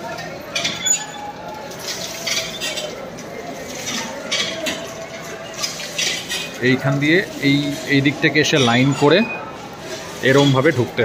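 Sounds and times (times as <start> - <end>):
low background hubbub: 0.0 - 11.0
metal dishes and utensils clinking: 0.0 - 11.0.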